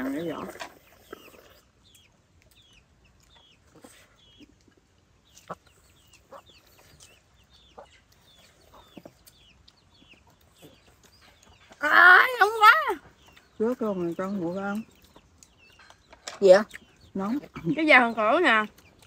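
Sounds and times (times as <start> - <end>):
chickens calling: 0.0 - 19.0.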